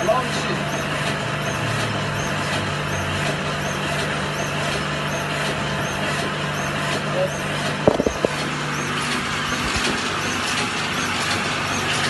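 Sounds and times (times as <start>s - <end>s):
printing press hum and clatter: 0.0s - 12.0s.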